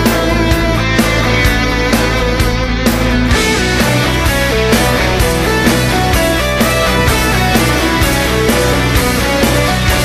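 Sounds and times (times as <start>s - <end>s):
rock music with guitar: 0.0s - 10.0s.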